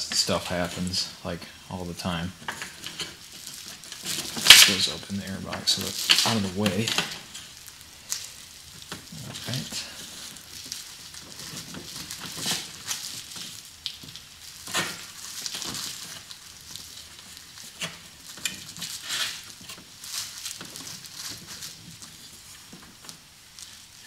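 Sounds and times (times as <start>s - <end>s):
hands rustling and scraping: 0.0s - 24.0s.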